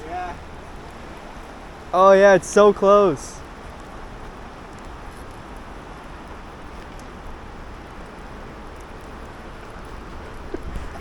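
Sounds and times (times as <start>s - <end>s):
river rushing through rapids: 0.0s - 11.0s.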